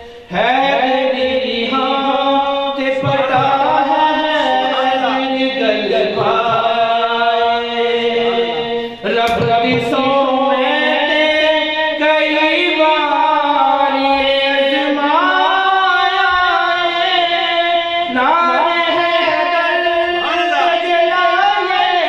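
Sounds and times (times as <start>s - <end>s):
man chanting into microphone: 0.0s - 22.0s.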